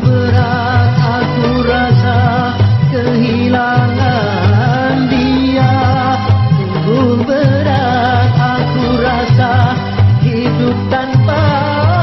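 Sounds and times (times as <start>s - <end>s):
sad song with wavering melody: 0.0s - 12.0s.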